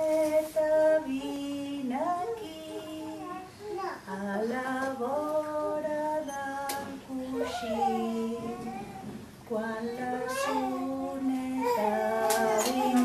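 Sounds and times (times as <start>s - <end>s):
woman singing: 0.0s - 3.4s, 4.0s - 13.0s.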